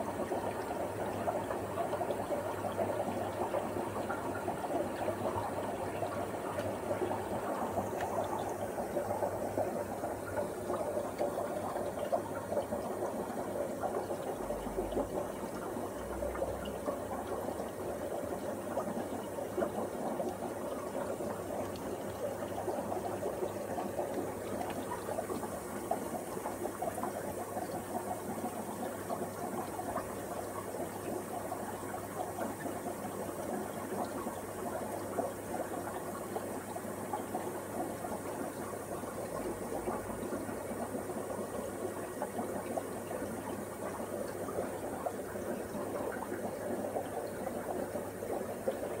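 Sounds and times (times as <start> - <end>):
aquarium bubbling and gurgling: 0.0 - 49.0.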